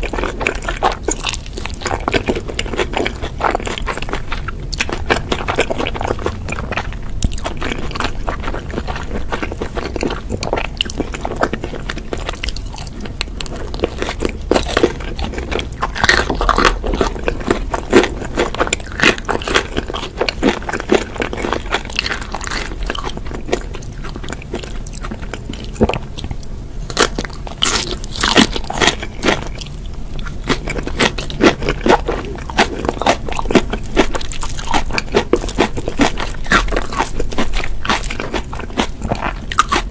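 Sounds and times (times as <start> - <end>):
wet chewing: 0.0 - 39.9
crisp crunching bites: 4.8 - 39.9.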